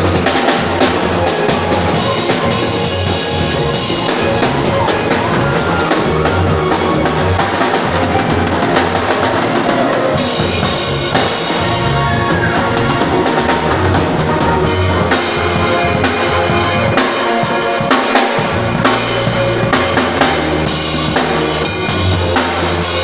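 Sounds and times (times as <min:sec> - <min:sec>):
bass notes: 0:00.0 - 0:23.0
drum kit groove: 0:00.0 - 0:23.0.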